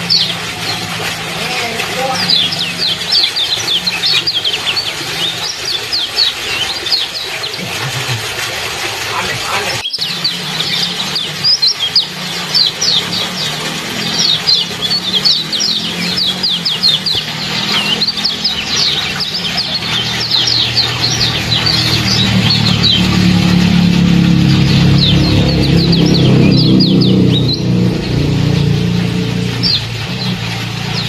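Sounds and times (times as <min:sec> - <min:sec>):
songbirds chirping: 0:00.0 - 0:07.7, 0:09.1 - 0:31.0.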